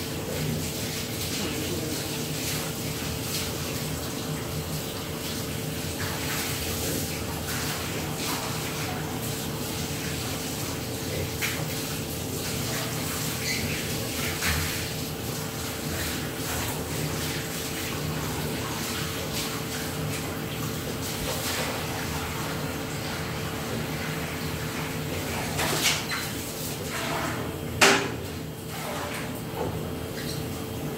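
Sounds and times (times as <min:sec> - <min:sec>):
towel rubbing wet dog: 0:00.1 - 0:27.5.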